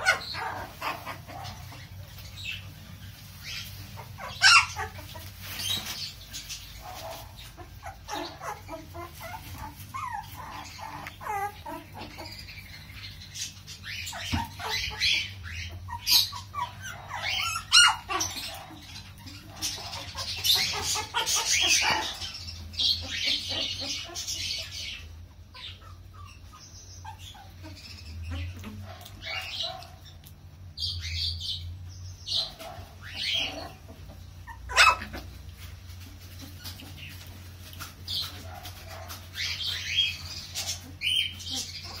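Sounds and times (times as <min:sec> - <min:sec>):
puppies whimpering and squeaking: 0:00.0 - 0:42.0.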